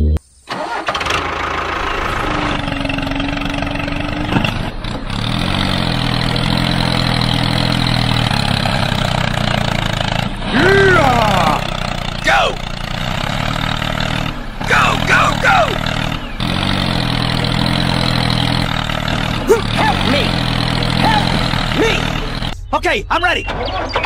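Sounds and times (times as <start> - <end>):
small engine running: 0.5 - 22.6.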